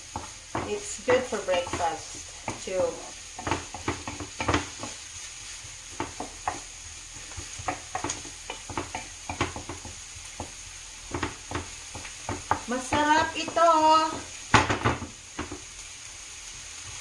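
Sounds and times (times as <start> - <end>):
onions sizzling in oil: 0.0 - 17.0
wooden spatula scraping pan: 0.1 - 14.3.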